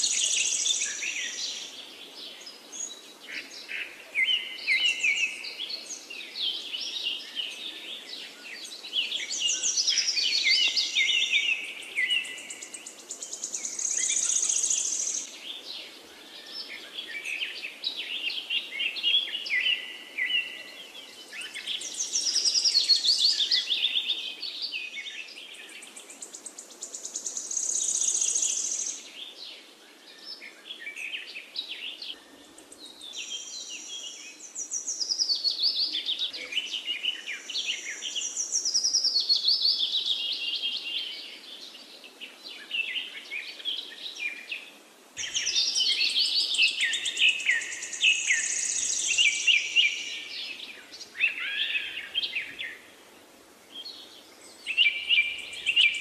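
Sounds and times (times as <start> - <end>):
birds chirping and singing: 2.4 - 52.9, 53.7 - 56.0.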